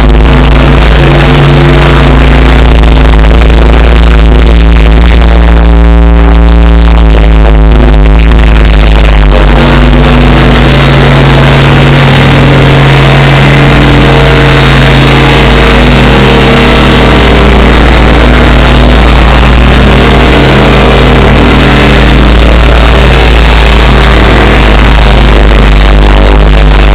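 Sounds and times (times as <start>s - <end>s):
distorted electronic drone: 0.0s - 26.9s.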